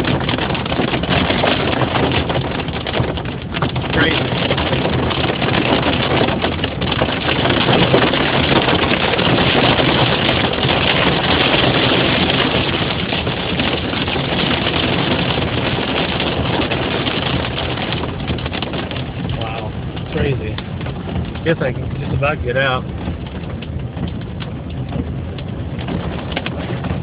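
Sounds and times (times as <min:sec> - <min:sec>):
rain and hail on car roof: 0:00.0 - 0:27.0.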